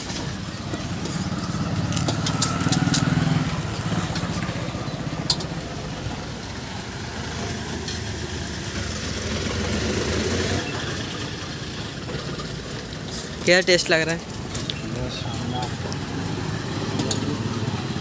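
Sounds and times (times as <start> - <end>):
street noise: 0.0 - 18.0
vehicle engine running: 0.0 - 18.0.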